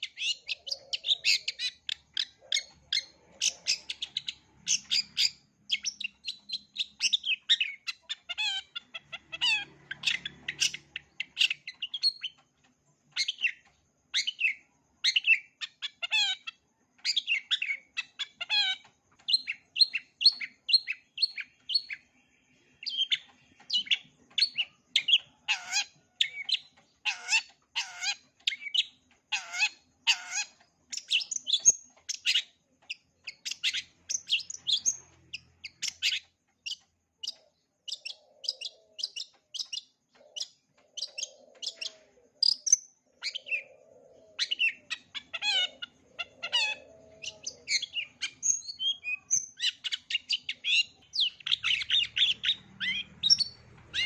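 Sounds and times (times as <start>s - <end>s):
bird singing chirps and whistles: 0.0s - 12.4s, 13.1s - 22.0s, 22.6s - 54.0s.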